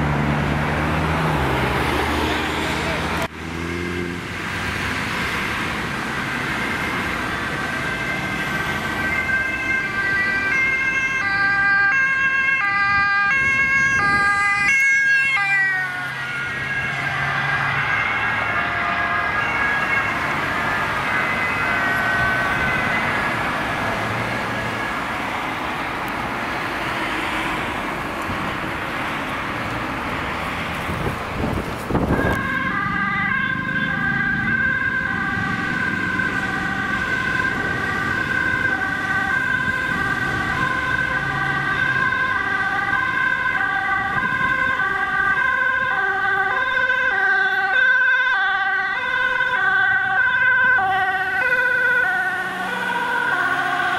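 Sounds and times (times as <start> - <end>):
ambulance siren: 0.0 - 28.0, 31.4 - 53.9
road traffic noise: 0.0 - 53.9
two-tone ambulance siren: 4.0 - 25.9, 31.9 - 53.9.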